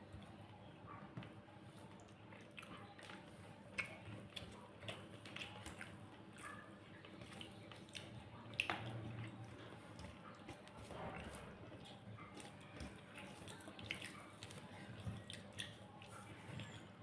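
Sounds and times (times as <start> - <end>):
chewing and eating sounds: 0.0 - 17.0.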